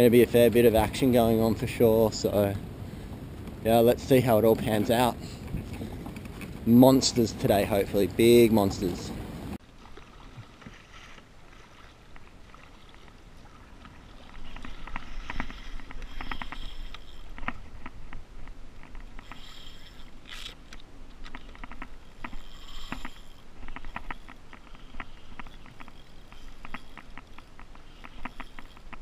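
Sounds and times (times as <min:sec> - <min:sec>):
water splashing around kayak: 0:00.0 - 0:29.0.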